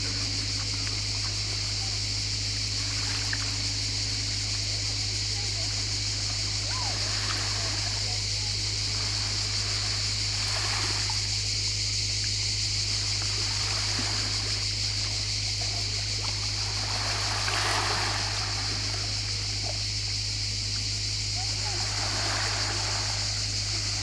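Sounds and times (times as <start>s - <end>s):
calm sea lapping: 0.0s - 24.0s
low hum: 0.0s - 24.0s
steady high hiss: 0.0s - 24.0s.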